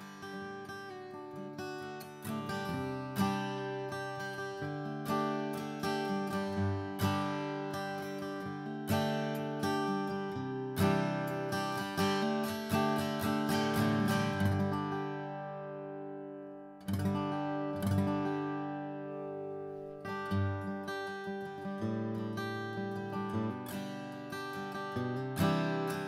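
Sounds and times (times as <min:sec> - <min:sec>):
acoustic guitar picking and strumming: 0:00.0 - 0:26.0.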